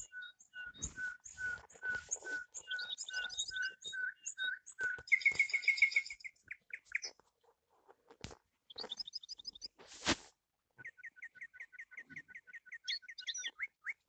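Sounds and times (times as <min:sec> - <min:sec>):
bird chirping: 0:00.0 - 0:07.4, 0:08.6 - 0:09.8, 0:10.8 - 0:14.0.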